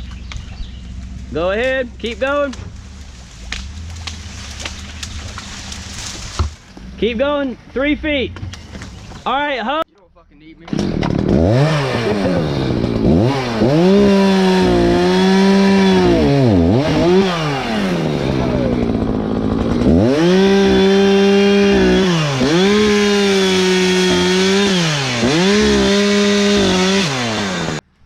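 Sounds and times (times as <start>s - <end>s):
chainsaw running: 0.6s - 7.0s, 10.6s - 27.8s.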